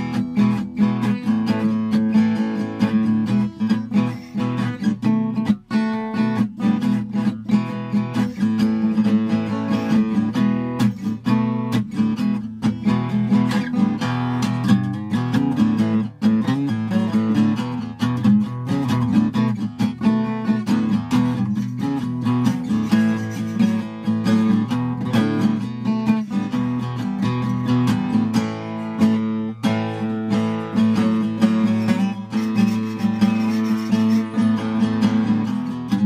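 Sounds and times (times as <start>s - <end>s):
acoustic guitar plucked and strummed: 0.0s - 36.0s.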